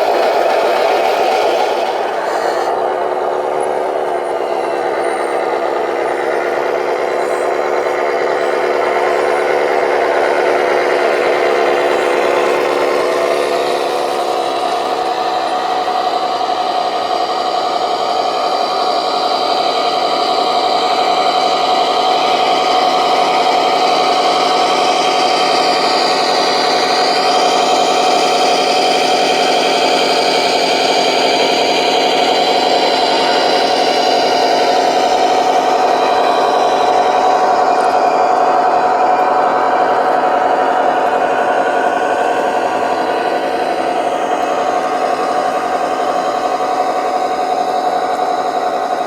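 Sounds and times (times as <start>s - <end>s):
electric motors whining: 0.0s - 49.0s.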